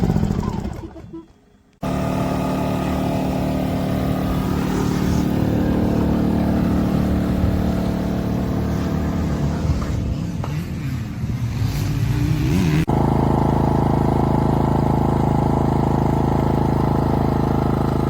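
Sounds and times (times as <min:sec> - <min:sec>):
generator engine humming: 0:00.0 - 0:11.5, 0:12.8 - 0:18.0.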